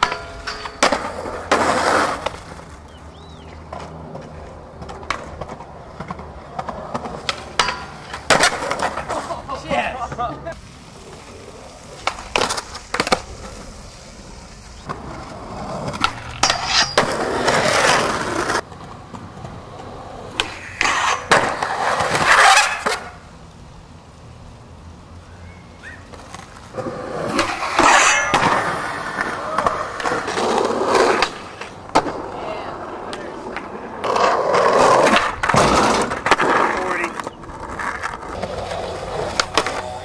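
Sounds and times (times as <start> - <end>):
skateboard clacking on ground: 0.0 - 23.3, 25.9 - 40.0
skateboards rolling on concrete: 0.0 - 40.0.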